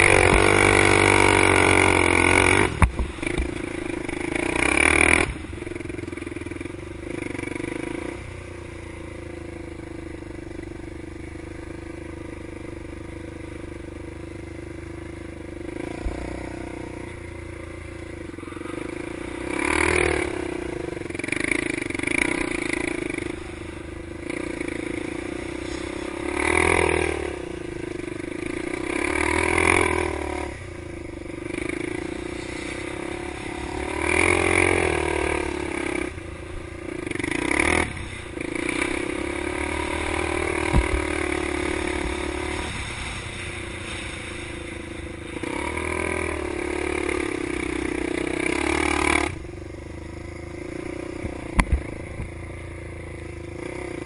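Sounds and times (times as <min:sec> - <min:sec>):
engine revving in surges: 0:00.0 - 0:08.6, 0:15.4 - 0:54.0.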